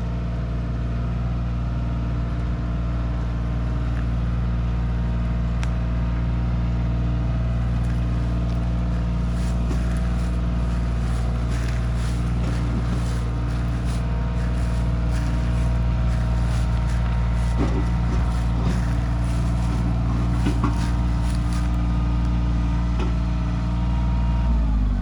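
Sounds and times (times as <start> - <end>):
tractor diesel engine running: 3.2 - 5.8, 7.4 - 25.0.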